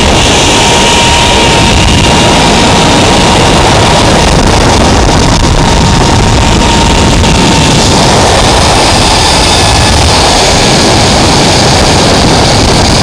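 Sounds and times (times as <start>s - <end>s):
pulley whine on cable: 0.0s - 13.0s
wind rushing over microphone: 0.0s - 13.0s.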